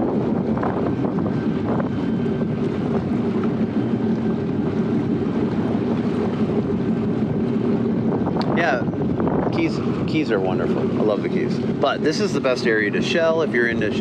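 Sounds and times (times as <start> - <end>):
watercraft engine droning: 0.0 - 14.0
wind buffeting microphone: 0.0 - 14.0.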